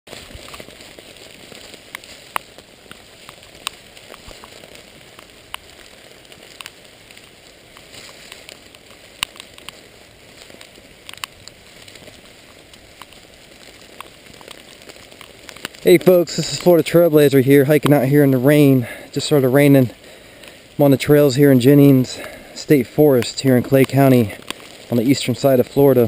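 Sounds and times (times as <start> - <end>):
rain pattering in forest: 0.1 - 26.0
sharp raindrop hits: 0.1 - 26.0.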